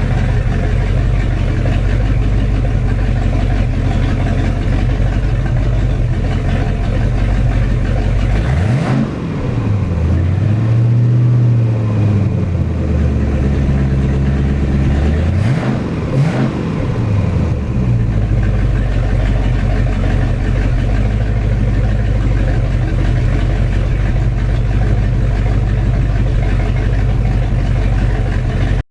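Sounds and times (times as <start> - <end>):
boat engine idling and revving: 0.0 - 28.8.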